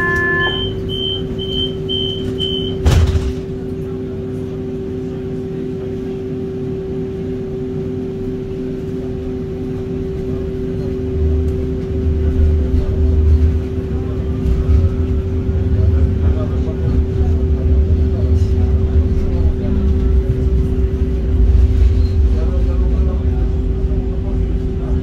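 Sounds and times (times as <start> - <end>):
tram electrical hum: 0.0 - 25.0
tram low rumble: 0.0 - 25.0.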